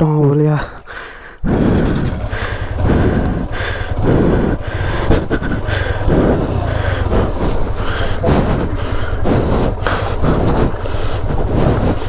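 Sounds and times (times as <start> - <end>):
motorcycle engine running: 0.9 - 12.0.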